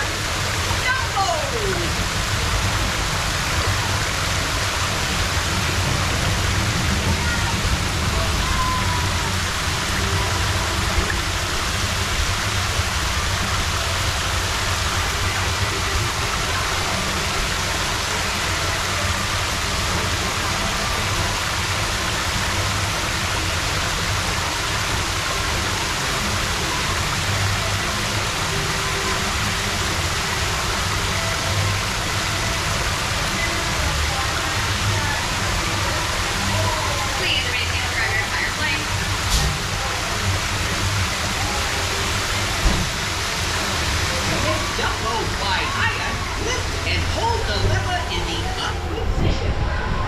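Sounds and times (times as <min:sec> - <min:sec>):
fountain jets splashing into pool: 0:00.0 - 0:50.0.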